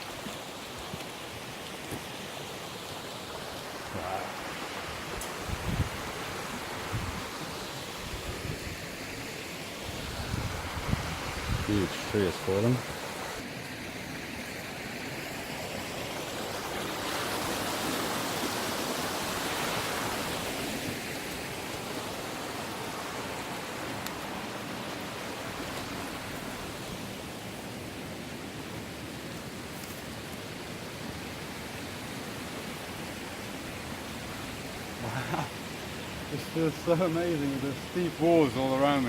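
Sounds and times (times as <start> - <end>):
mountain stream rushing: 0.0 - 39.0.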